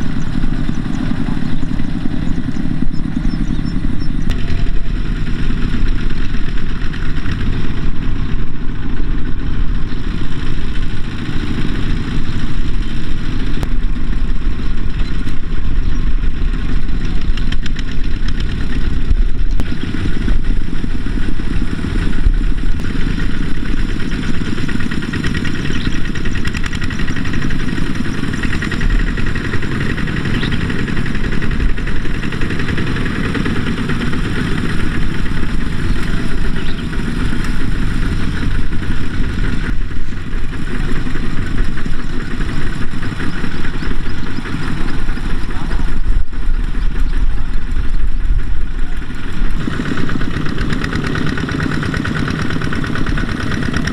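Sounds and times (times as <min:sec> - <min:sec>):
diesel engine running loud: 0:00.0 - 0:53.9.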